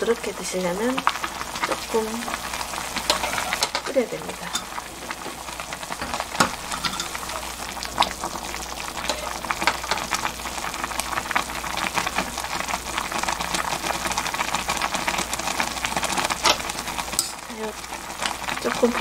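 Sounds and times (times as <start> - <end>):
water boiling with bubbling pops: 0.0 - 19.0.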